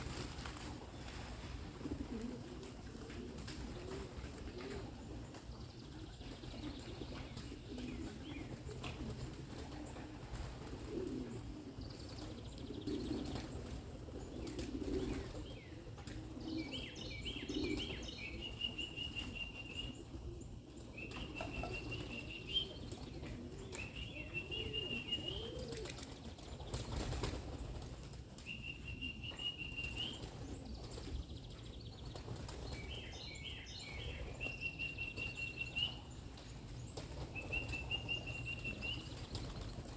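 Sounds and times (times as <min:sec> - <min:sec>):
pigeon wingbeats: 0:00.0 - 0:16.6, 0:17.4 - 0:31.4, 0:32.0 - 0:33.0, 0:34.0 - 0:39.9
pigeons cooing: 0:00.0 - 0:39.9.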